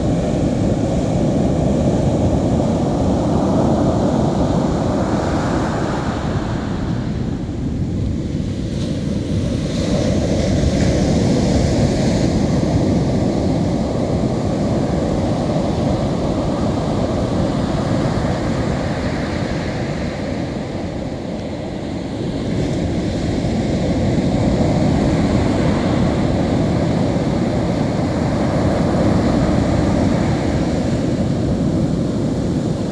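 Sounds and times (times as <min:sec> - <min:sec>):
surf washing up a sandy beach: 0:00.0 - 0:32.9
wind rumbling on microphone: 0:00.0 - 0:32.9.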